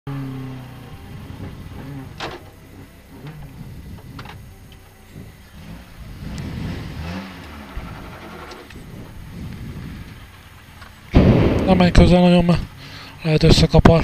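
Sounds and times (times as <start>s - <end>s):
car engine running at low revs: 0.1s - 14.0s.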